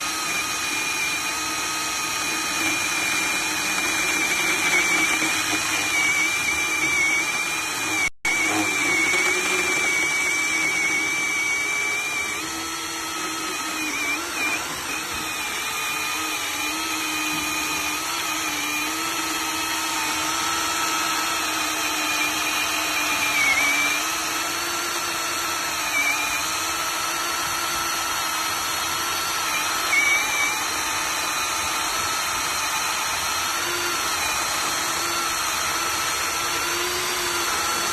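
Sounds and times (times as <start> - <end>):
electric chainsaw motor whining: 0.0 - 37.9.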